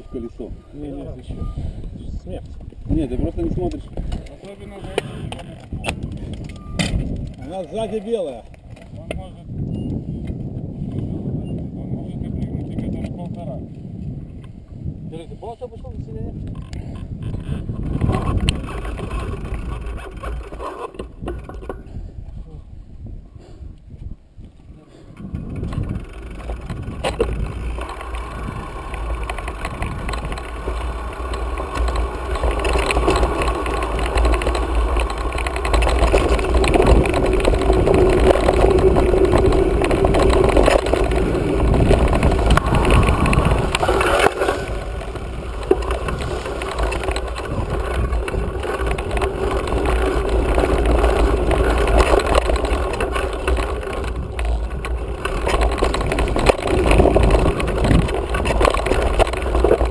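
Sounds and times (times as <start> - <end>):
bike tyres rumbling on dirt: 0.0 - 59.9
wind buffeting microphone: 0.0 - 59.9.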